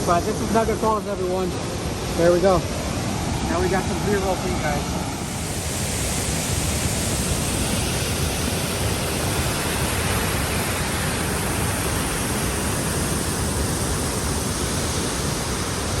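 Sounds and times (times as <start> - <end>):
waterfall crashing down: 0.0 - 16.0.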